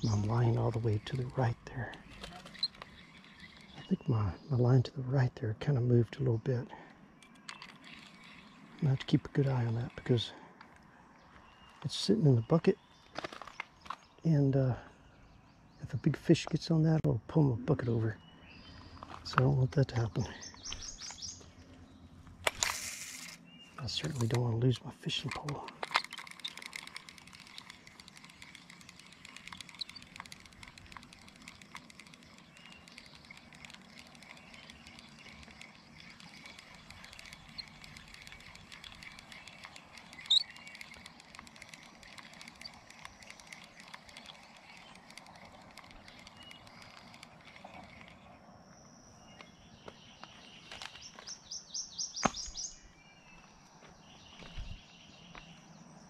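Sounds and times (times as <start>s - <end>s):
bird chirps: 0.0s - 22.3s, 23.2s - 56.0s.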